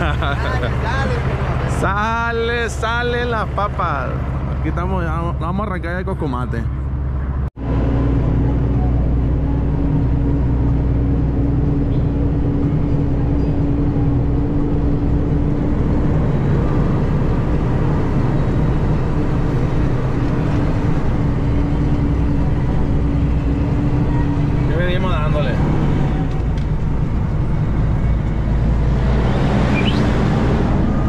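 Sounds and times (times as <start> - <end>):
truck diesel engine running: 0.0 - 31.0.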